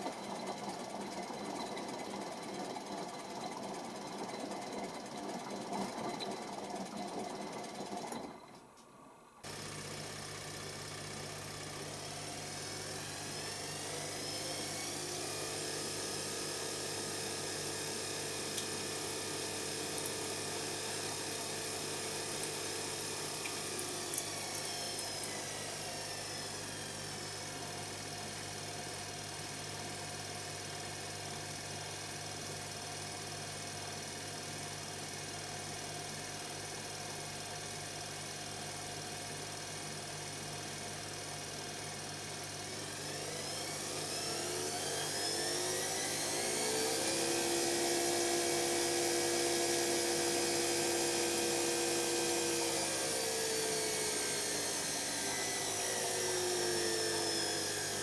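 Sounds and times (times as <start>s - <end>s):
washing machine spinning: 0.0s - 8.5s, 9.4s - 58.0s.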